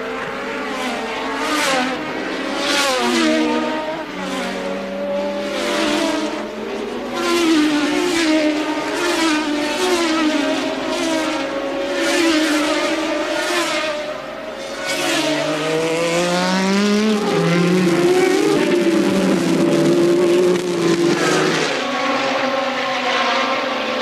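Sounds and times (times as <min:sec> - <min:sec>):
racing cars passing: 0:00.0 - 0:24.0.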